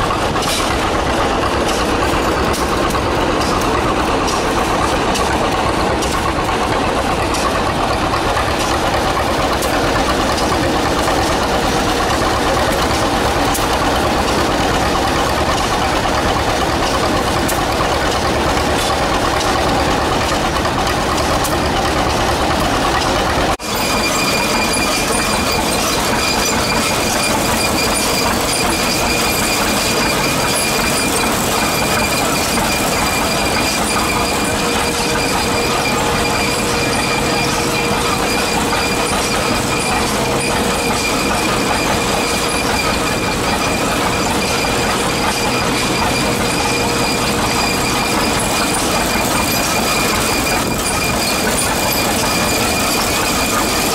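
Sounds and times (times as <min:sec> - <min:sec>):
threshing machine clatter and rumble: 0:00.0 - 0:53.9
tractor engine: 0:00.0 - 0:53.9.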